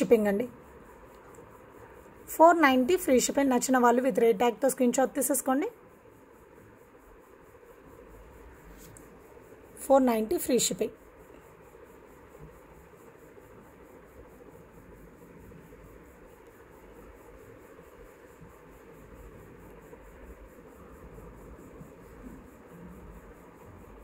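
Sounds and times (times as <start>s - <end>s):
steady low hiss: 0.0s - 24.0s.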